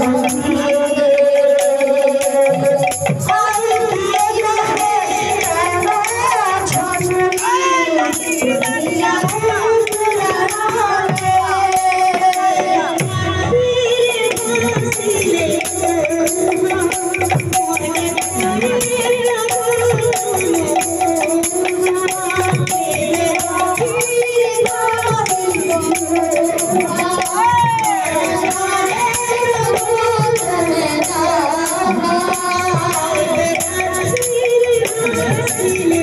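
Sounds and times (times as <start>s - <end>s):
held devotional melody: 0.0s - 36.0s.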